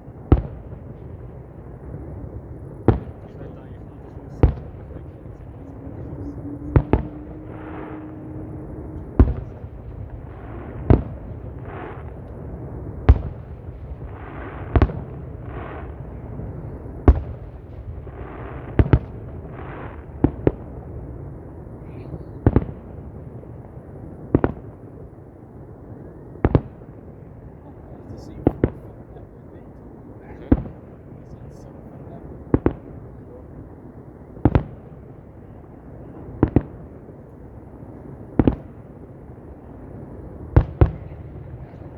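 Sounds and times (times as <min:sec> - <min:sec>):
hissing crackles: 0:00.0 - 0:24.8, 0:25.6 - 0:41.9
fireworks bangs: 0:00.0 - 0:41.9.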